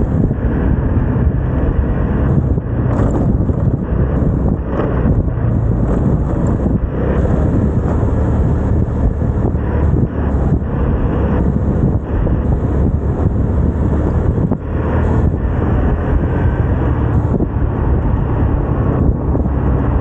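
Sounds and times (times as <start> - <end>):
scooter engine running: 0.0 - 20.0
wind rumbling on microphone: 0.0 - 20.0.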